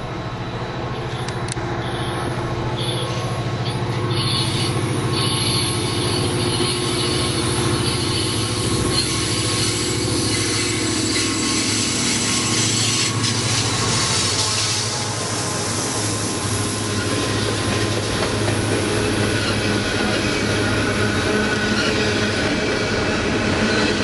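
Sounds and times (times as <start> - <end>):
diesel locomotive engine drone: 0.0 - 24.0
train wheels rolling on rails: 0.0 - 24.0.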